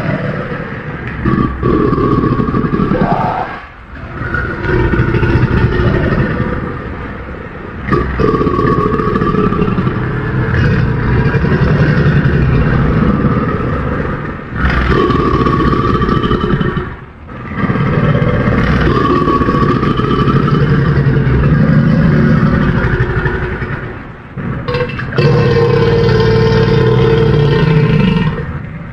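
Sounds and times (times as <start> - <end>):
rough creature calls: 0.0 - 28.9.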